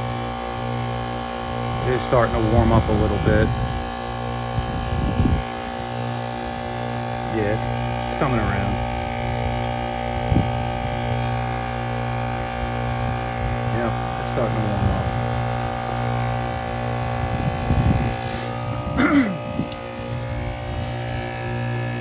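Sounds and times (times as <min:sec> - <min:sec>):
compressor humming: 0:00.0 - 0:22.0.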